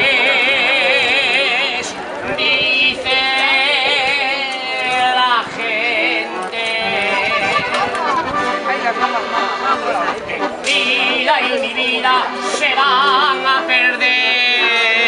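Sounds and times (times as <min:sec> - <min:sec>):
man singing with vibrato: 0:00.0 - 0:15.0
people chattering: 0:00.0 - 0:15.0
piano accordion: 0:00.0 - 0:15.0.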